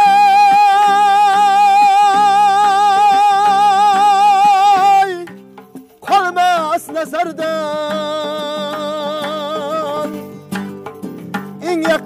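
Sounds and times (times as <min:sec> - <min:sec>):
man singing with vibrato: 0:00.0 - 0:12.0
nylon-string guitar: 0:00.0 - 0:12.0
plucked long-necked lute: 0:00.0 - 0:12.0.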